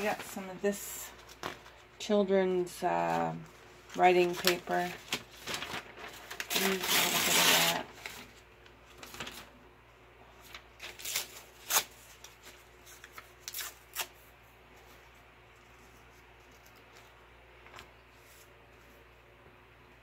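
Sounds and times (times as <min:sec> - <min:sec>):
paper rustling: 0:00.0 - 0:01.9, 0:03.0 - 0:09.6, 0:10.4 - 0:19.1.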